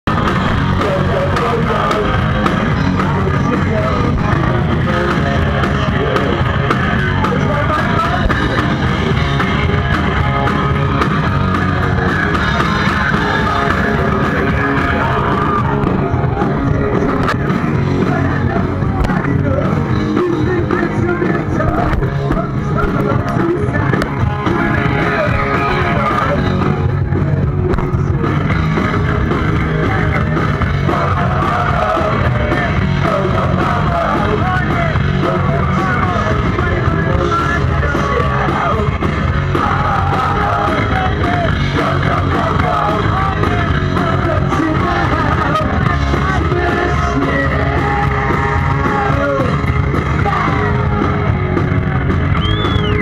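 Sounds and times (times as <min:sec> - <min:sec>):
punk rock band playing live: 0:00.0 - 0:53.0.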